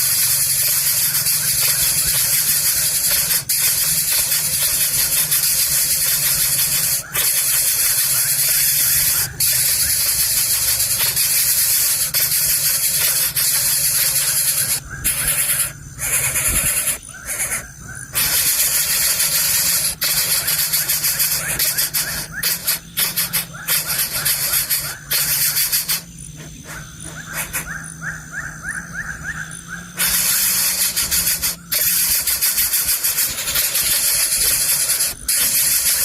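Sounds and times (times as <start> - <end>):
nestlings hissing begging: 0.0 - 36.0.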